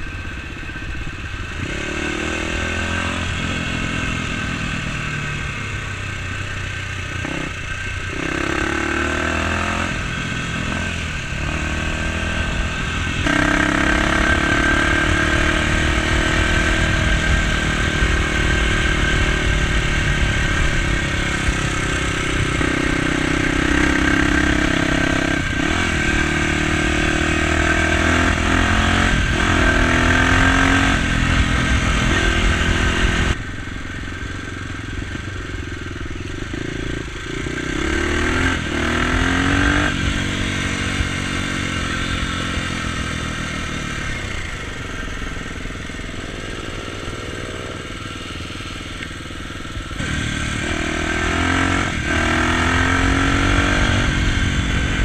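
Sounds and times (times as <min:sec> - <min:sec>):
dirt bike engine accelerating: 0:00.0 - 0:55.0.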